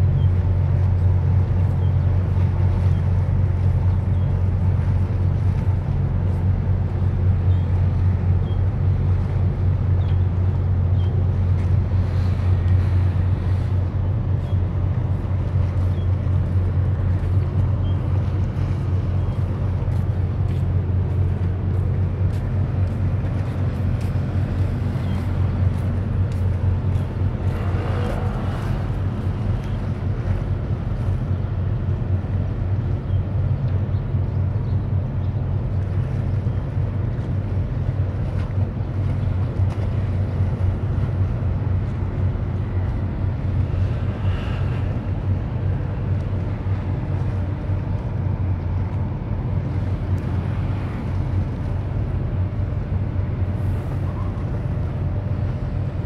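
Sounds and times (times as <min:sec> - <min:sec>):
ship engines droning: 0:00.0 - 0:56.0
water noise: 0:00.0 - 0:56.0
wind: 0:00.0 - 0:56.0.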